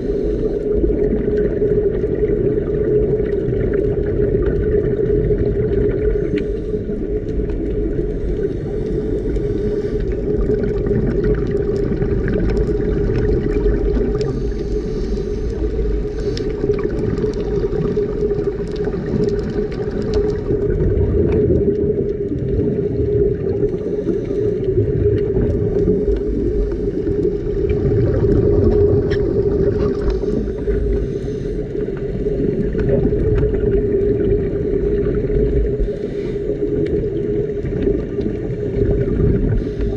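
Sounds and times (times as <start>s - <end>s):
constant hum: 0.0s - 39.9s
underwater low rumble: 0.0s - 39.9s
faint crackling: 3.2s - 39.9s.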